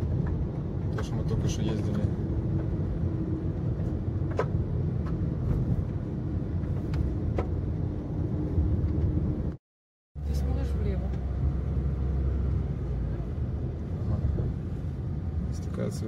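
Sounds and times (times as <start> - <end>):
car engine and tyre rumble: 0.0 - 9.6, 10.2 - 16.0.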